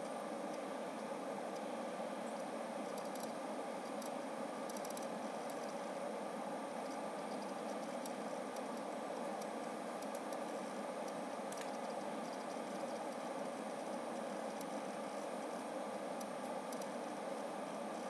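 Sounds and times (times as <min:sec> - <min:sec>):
faint hard drive clicks: 0:00.0 - 0:01.7, 0:02.3 - 0:05.9, 0:06.8 - 0:18.0.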